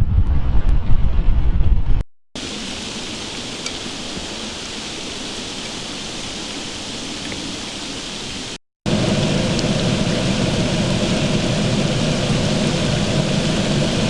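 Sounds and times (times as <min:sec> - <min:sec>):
freezing rain hissing: 0:02.4 - 0:14.0.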